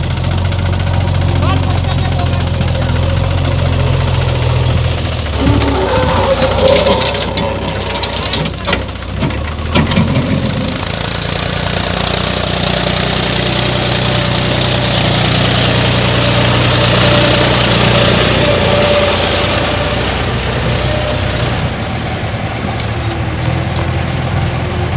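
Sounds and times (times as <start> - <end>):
diesel engines running: 0.0 - 24.9.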